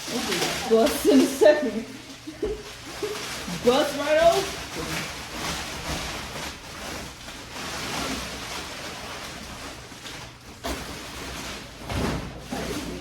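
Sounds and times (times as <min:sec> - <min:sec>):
plastic wrapping rustling and tearing: 0:00.0 - 0:13.0.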